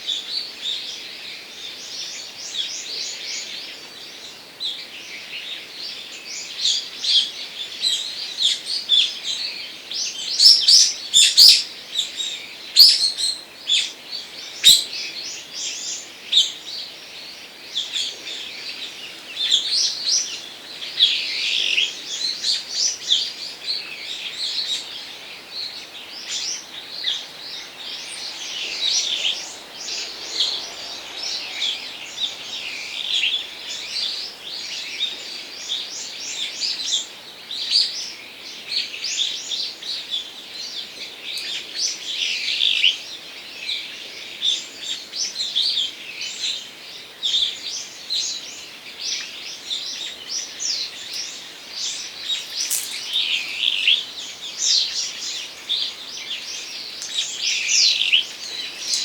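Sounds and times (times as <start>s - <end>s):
many small birds chirping: 0.0s - 59.0s.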